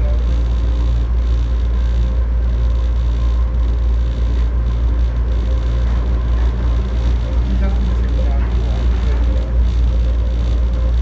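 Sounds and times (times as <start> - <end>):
faint steady whine: 0.0 - 11.0
train running low rumble: 0.0 - 11.0.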